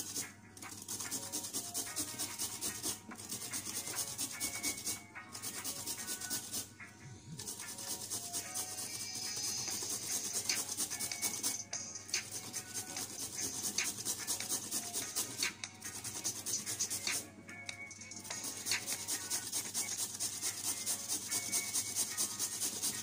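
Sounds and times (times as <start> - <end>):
carrot grating on metal grater: 0.0 - 6.7, 7.3 - 11.6, 12.2 - 17.2, 18.3 - 23.0.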